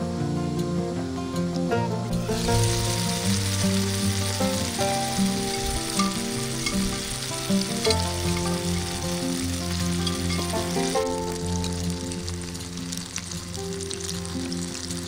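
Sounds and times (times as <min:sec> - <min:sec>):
background music: 0:00.0 - 0:15.0
patties sizzling in skillet: 0:02.1 - 0:15.0.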